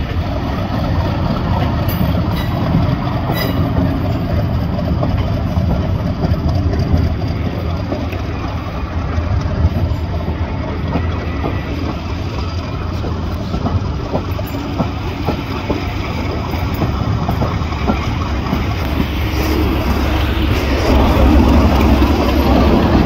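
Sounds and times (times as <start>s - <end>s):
diesel locomotive engines: 0.0s - 23.0s.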